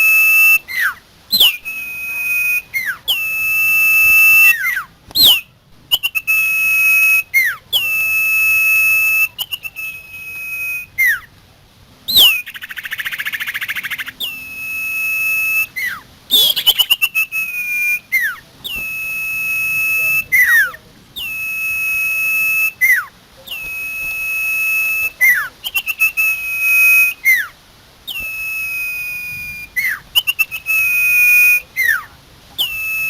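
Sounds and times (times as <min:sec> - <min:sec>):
rapid bird trill: 0:00.0 - 0:11.3, 0:12.1 - 0:33.0
songbird whistled song: 0:00.0 - 0:11.4, 0:12.0 - 0:33.0
swept bird calls: 0:00.0 - 0:11.4, 0:12.1 - 0:33.0.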